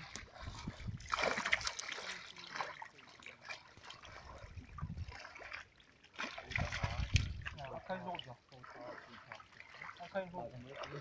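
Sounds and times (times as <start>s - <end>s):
fish splashing in shallow water: 0.0s - 11.0s.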